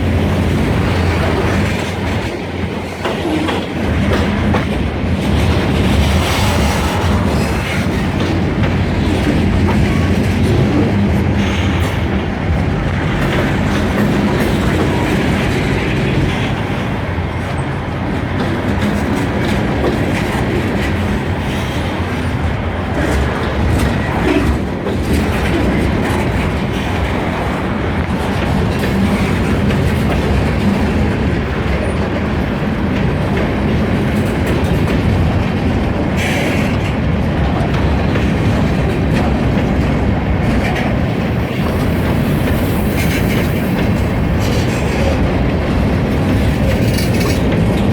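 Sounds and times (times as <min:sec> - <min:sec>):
train low rumble: 0:00.0 - 0:47.9
wheels clacking over rail joints: 0:00.0 - 0:47.9.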